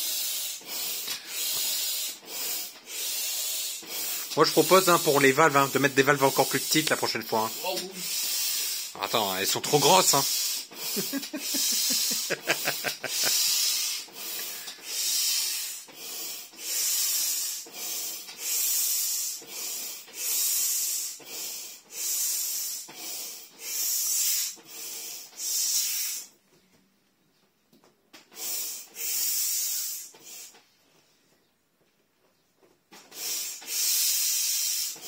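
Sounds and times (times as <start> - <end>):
hand air pump hissing: 0.0 - 26.3, 28.3 - 30.6, 33.0 - 35.0.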